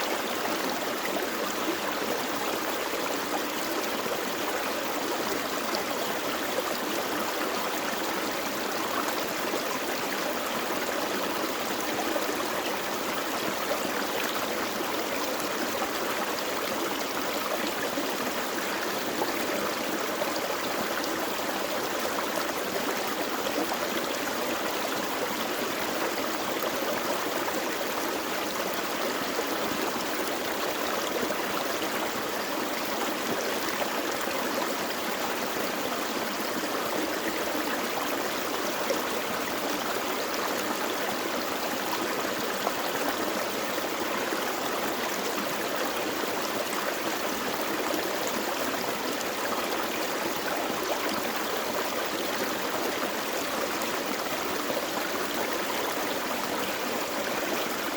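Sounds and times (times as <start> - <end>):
stream babbling over rocks: 0.0 - 57.9.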